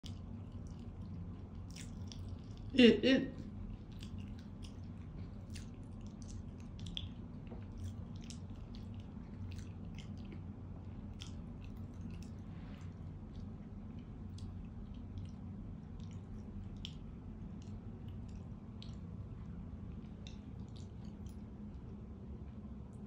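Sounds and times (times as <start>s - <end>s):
cat chewing food: 0.0s - 2.7s, 3.4s - 23.0s
low steady hum: 0.0s - 23.0s.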